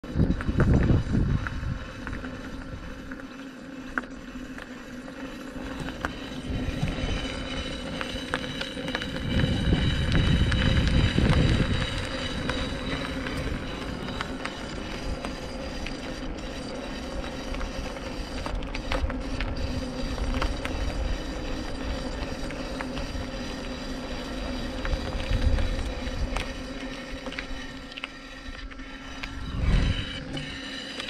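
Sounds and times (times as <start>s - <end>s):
electric motor whine: 0.0s - 31.0s
pebble ticking: 0.0s - 31.0s.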